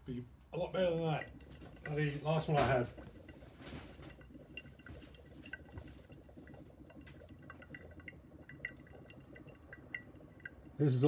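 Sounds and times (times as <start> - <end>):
gas bubbling through liquid: 0.6 - 11.0.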